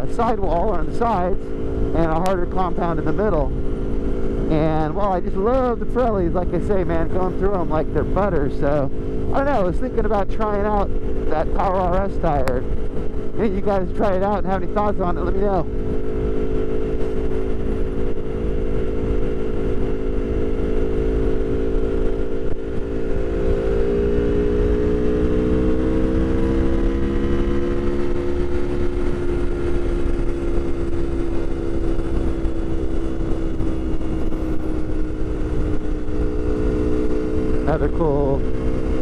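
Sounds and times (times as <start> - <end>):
motorcycle engine cruising: 0.0 - 39.0
wind and road noise: 0.0 - 39.0.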